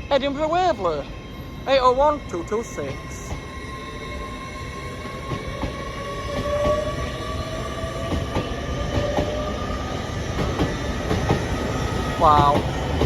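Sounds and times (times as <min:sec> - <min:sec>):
train whine: 0:00.0 - 0:13.0.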